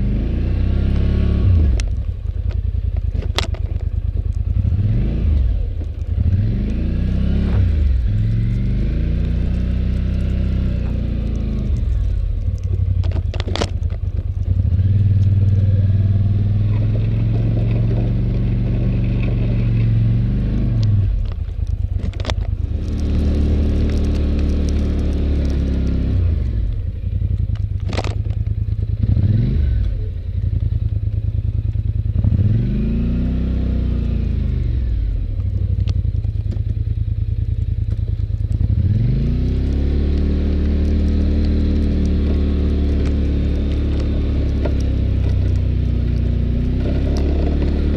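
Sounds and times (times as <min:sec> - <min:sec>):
atv engine plowing snow: 0:00.0 - 0:47.9.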